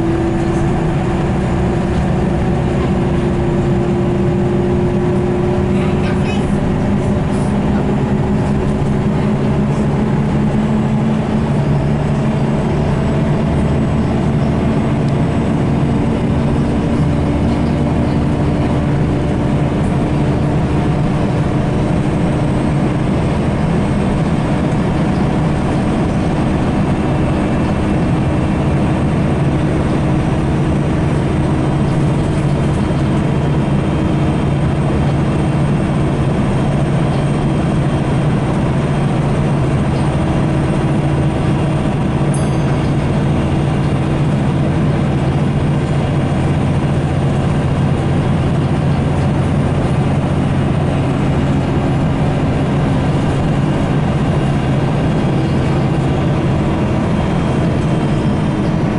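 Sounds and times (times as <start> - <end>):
bus diesel engine droning: 0.0 - 58.9
road noise: 0.0 - 58.9.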